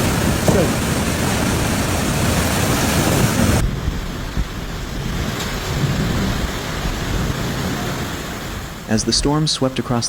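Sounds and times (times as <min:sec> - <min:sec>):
wind rumbling on microphone: 0:00.0 - 0:09.4
loud storm hiss: 0:00.0 - 0:10.0.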